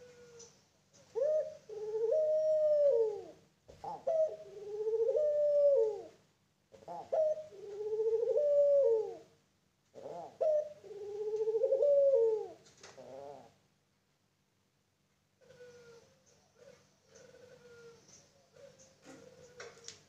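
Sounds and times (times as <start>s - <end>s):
dove cooing: 0.0s - 13.6s, 15.4s - 20.0s.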